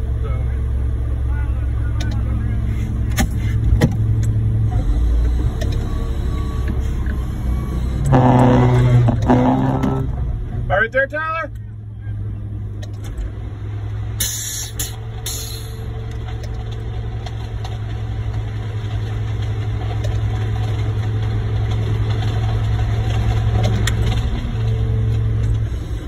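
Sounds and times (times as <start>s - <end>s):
diesel truck engine revving: 0.0s - 26.0s.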